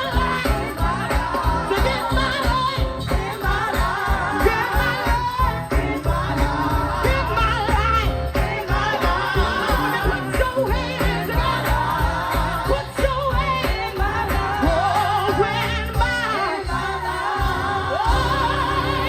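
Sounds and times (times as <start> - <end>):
band with bass and drums: 0.0 - 19.0
voices singing gospel: 0.0 - 19.0.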